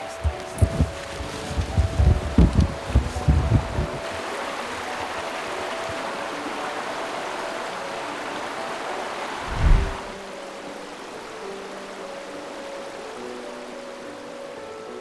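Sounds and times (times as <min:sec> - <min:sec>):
river water over stones: 0:00.0 - 0:15.0.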